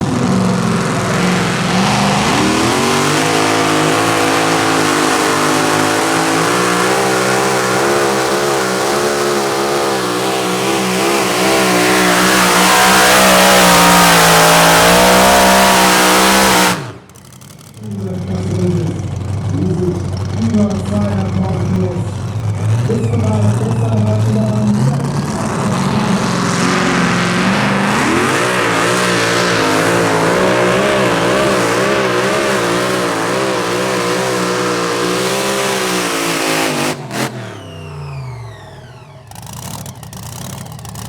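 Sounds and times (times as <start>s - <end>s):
tractor engine running hard: 0.0s - 41.0s.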